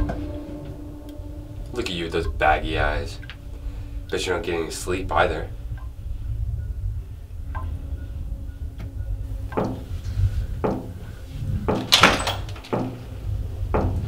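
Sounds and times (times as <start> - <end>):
heavy thuds: 0.0 - 14.0
steady low rumble: 0.0 - 14.0.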